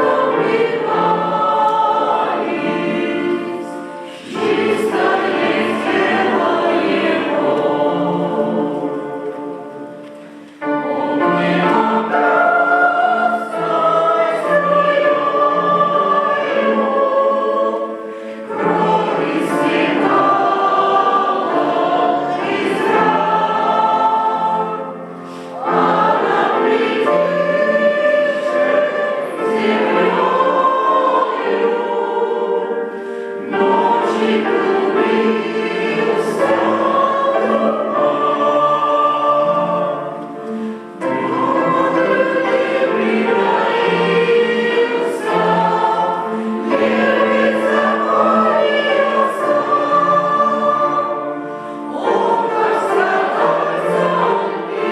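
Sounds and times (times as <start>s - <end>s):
choir breaths: 0.0s - 54.9s
choir singing a hymn: 0.0s - 54.9s.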